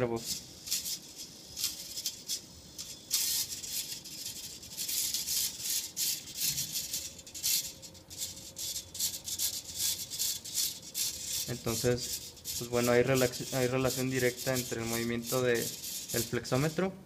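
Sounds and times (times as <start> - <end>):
servos whirring: 0.0 - 16.8.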